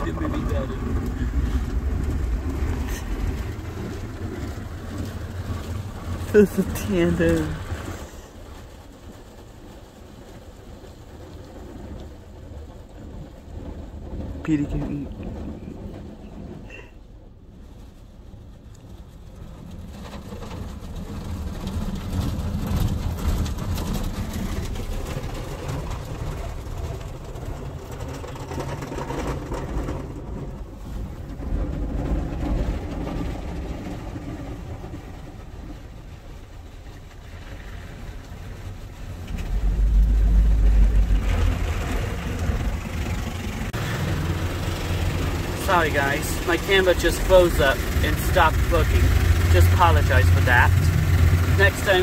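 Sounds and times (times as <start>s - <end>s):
car wash machinery rumble: 0.0s - 52.0s
water spraying on car: 0.0s - 52.0s.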